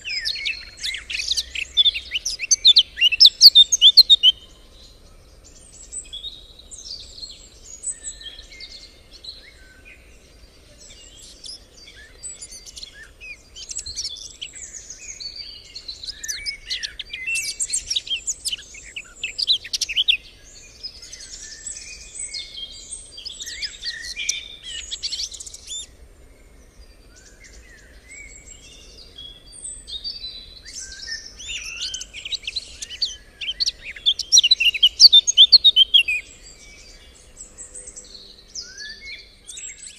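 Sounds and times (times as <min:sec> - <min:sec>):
songbirds chorus chirping: 0:00.0 - 0:39.9.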